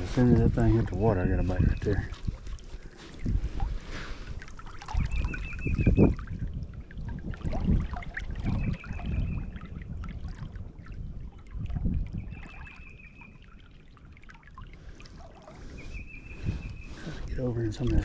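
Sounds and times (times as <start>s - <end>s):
creek water splashing: 0.0s - 18.0s.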